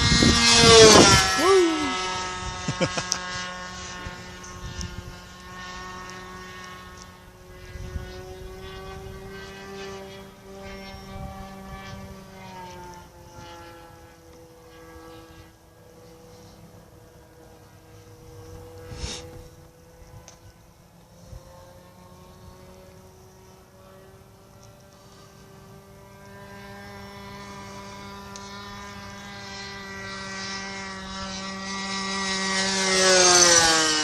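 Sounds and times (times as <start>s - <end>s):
model airplane engine buzzing: 0.0s - 34.0s.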